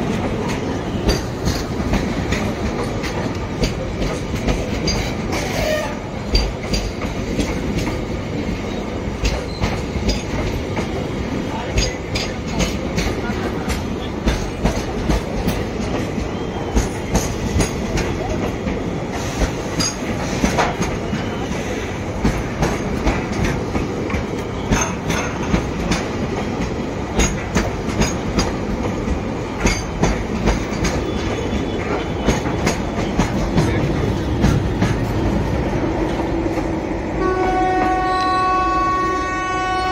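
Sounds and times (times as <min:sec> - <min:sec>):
train wheels clattering over rail joints: 0:00.0 - 0:36.8.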